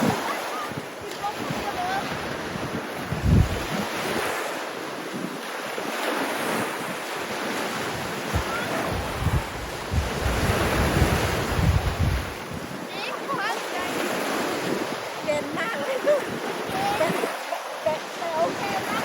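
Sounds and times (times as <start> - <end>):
sea waves washing ashore: 0.0 - 19.0
wind buffeting microphone: 0.0 - 19.0.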